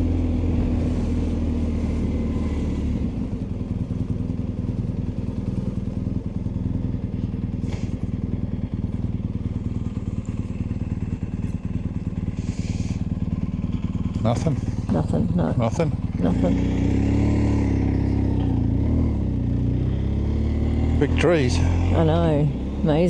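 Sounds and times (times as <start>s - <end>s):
motorcycle engine rumbling: 0.0s - 23.0s.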